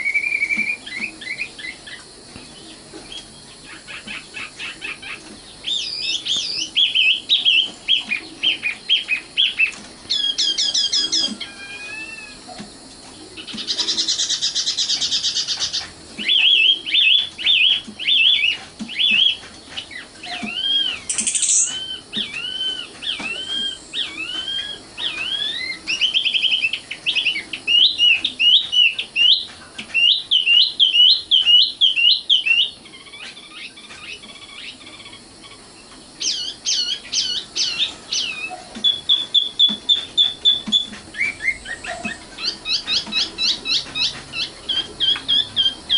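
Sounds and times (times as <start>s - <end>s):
nightingale singing: 0.0s - 45.9s.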